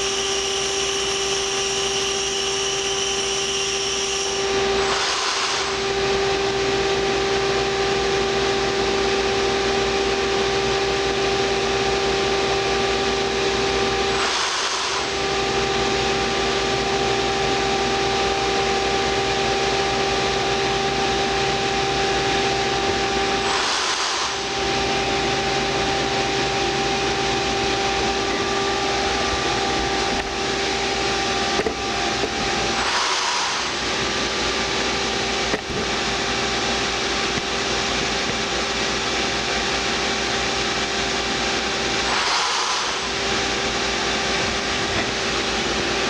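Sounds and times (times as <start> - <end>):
machine hum with held tone: 0.0 - 46.0.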